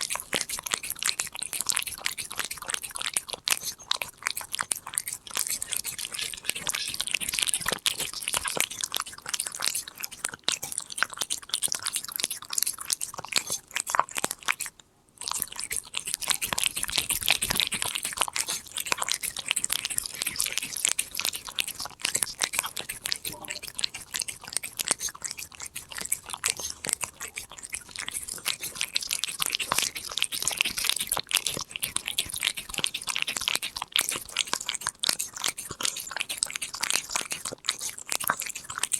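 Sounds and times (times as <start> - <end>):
cat crunching a snack: 0.0 - 38.9.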